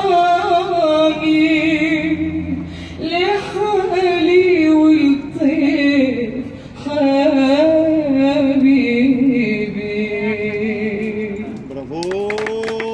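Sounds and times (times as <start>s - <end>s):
woman singing into microphone: 0.0s - 11.5s.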